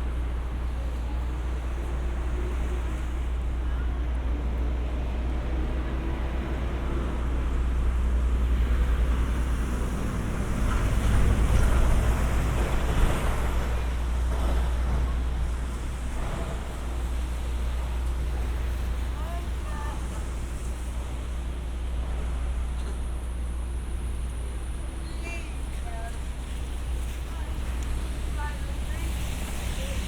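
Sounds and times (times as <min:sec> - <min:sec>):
traffic on wet pavement: 0:00.0 - 0:30.0.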